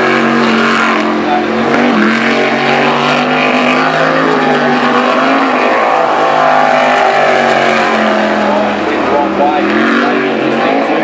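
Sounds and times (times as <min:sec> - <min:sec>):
boat engine at high revs: 0:00.0 - 0:11.0.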